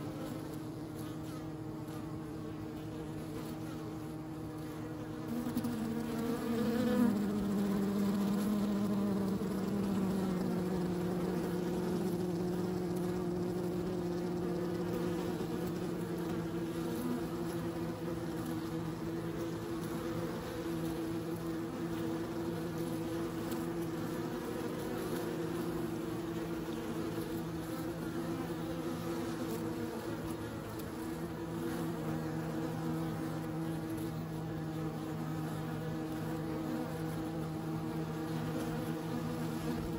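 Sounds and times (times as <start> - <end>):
bees buzzing at a hive: 0.0 - 39.9
single bee passing close: 0.0 - 39.9.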